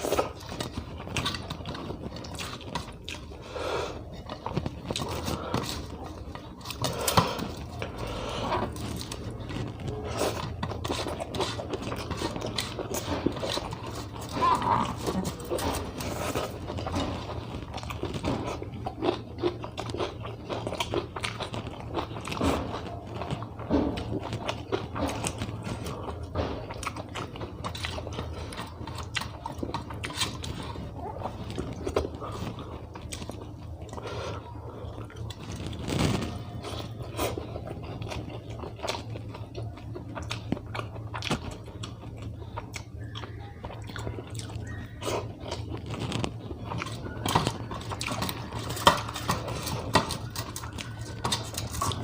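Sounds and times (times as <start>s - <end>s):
person chewing food: 0.0s - 52.0s
steady low hum: 0.0s - 52.0s.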